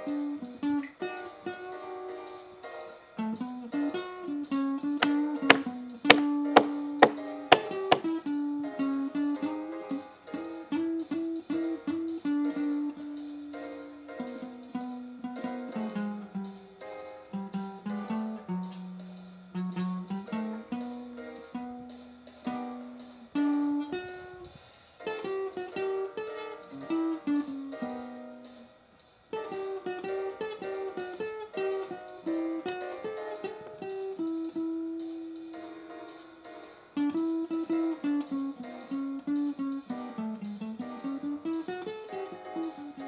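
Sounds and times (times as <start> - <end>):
guitar plucking melody: 0.0 - 43.0.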